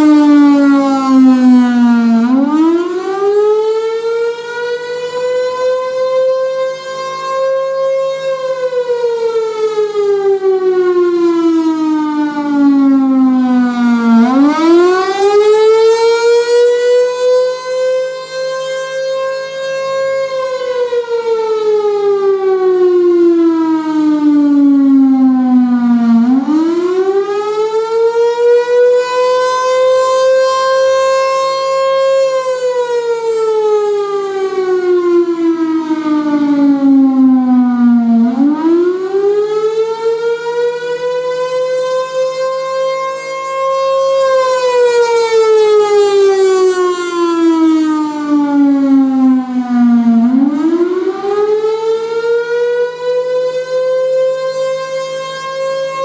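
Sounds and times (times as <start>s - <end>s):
warning siren wailing: 0.0s - 56.0s.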